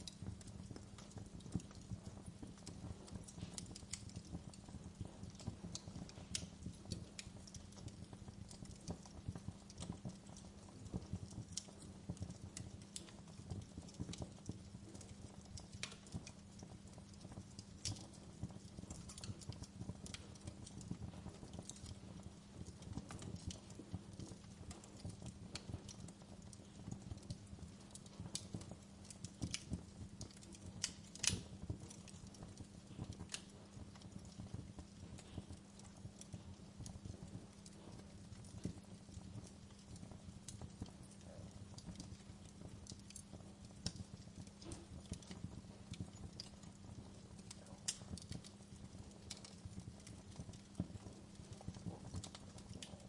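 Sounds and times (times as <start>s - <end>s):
campfire crackling and popping: 0.0s - 53.0s
low steady fire rumble: 0.0s - 53.0s.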